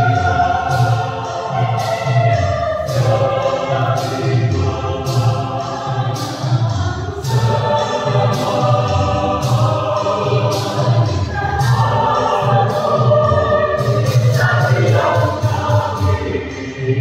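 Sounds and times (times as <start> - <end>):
mixed choir singing in harmony: 0.0 - 17.0
steady low beat: 0.0 - 17.0.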